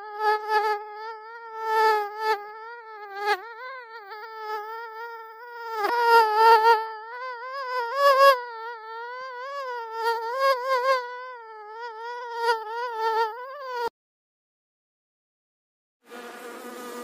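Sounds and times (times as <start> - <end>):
mosquito buzzing: 0.0 - 14.0, 16.1 - 17.0.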